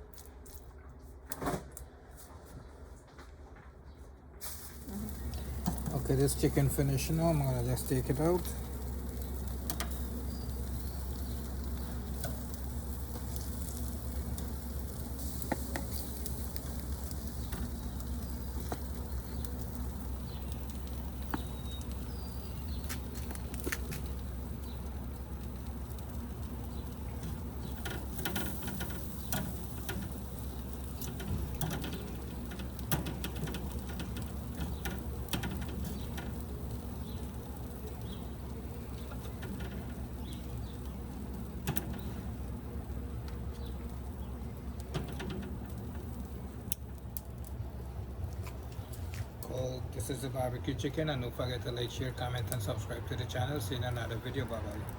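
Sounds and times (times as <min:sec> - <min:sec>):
low background hum: 0:00.0 - 0:54.9
chicken sizzling on a grill: 0:04.4 - 0:54.9.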